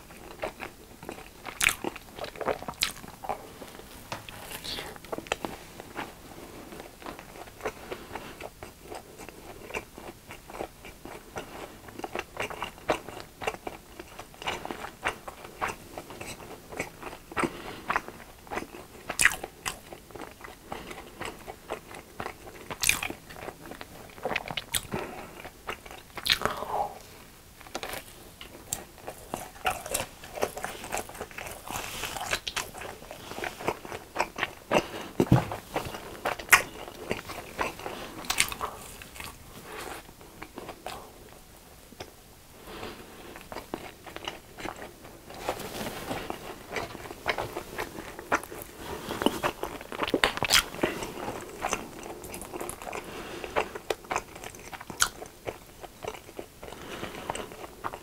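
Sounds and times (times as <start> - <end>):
crunchy chewing: 0.0 - 41.4, 42.7 - 58.0.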